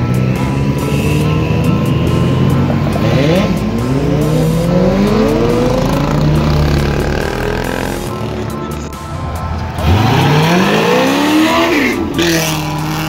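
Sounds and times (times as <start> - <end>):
vehicle engines revving: 0.0 - 13.0.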